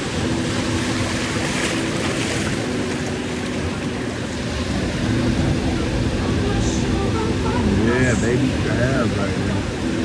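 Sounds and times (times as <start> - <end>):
ocean surf washing ashore: 0.0 - 10.0
wind rumbling on microphone: 0.0 - 10.0.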